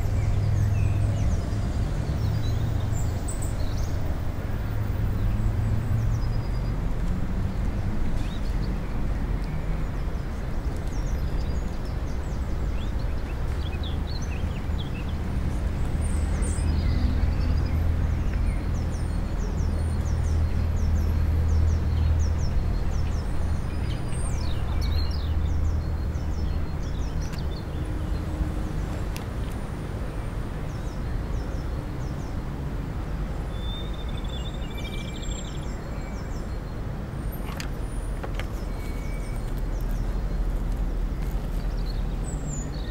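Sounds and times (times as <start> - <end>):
distant traffic rumble: 0.0 - 42.9.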